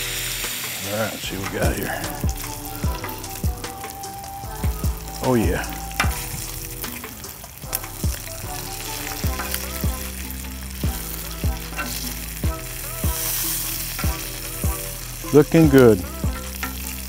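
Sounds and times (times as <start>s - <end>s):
bacon sizzling on a griddle: 0.0s - 17.0s
metal tongs turning food: 0.0s - 17.0s
music with deep beat: 0.0s - 17.0s.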